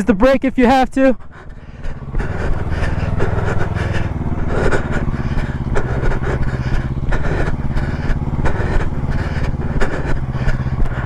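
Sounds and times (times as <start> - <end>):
motorcycle engine at low revs: 1.2 - 11.0
sharp ticks: 1.2 - 11.0.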